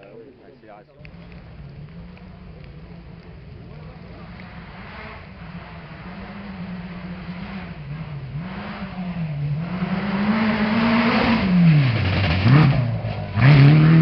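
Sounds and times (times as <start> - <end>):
rally car engine revving: 1.0 - 14.0.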